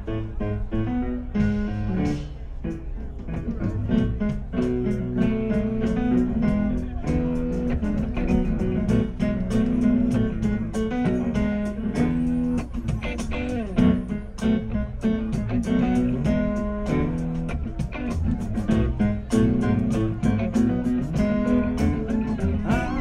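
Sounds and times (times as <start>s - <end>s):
bass guitar: 0.0s - 23.0s
guitars strummed and picked: 0.0s - 23.0s
drum and cymbal hits: 1.4s - 23.0s.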